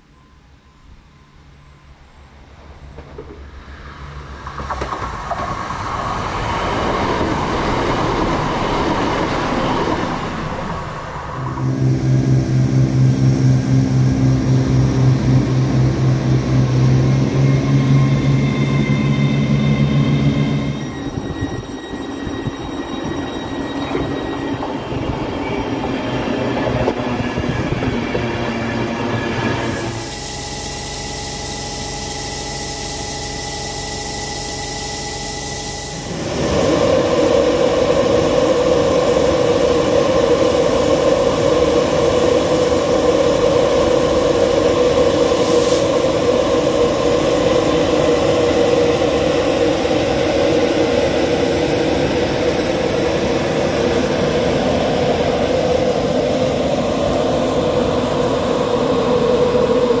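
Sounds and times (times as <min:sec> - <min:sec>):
electric locomotive hum: 0:00.0 - 1:00.0
locomotive machinery rushing: 0:02.6 - 1:00.0.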